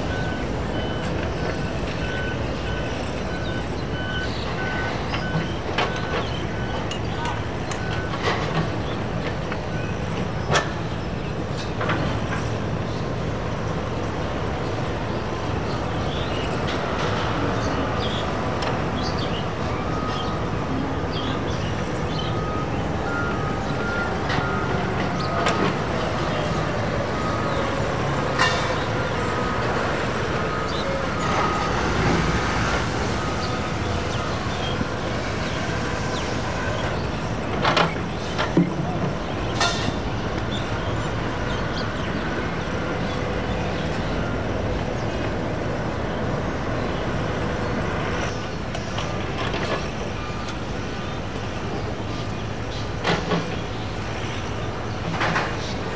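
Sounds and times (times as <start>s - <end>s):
engines and road traffic rumble: 0.0s - 55.9s.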